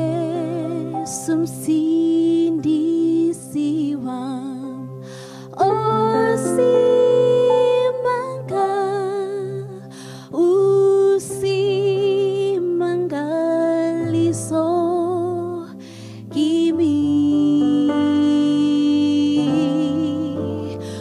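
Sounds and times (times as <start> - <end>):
woman singing slow song: 0.0 - 21.0.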